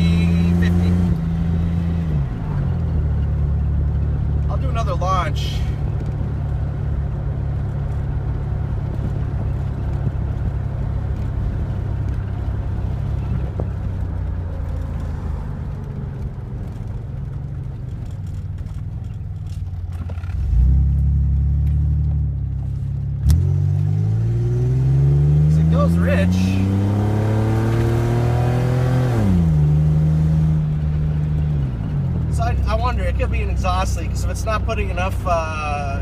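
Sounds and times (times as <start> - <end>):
car engine humming while driving: 0.0 - 36.0.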